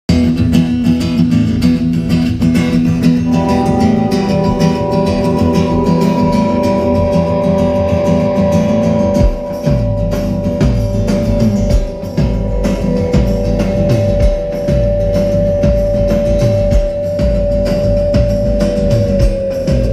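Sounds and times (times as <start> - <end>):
drums: 0.1 - 19.9
guitar chords: 0.1 - 19.9.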